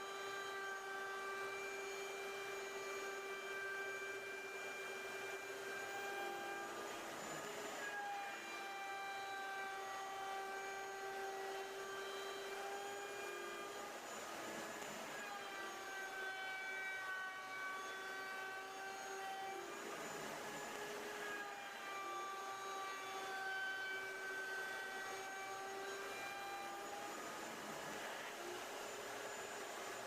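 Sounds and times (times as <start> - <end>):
electric router whining: 0.0 - 30.0.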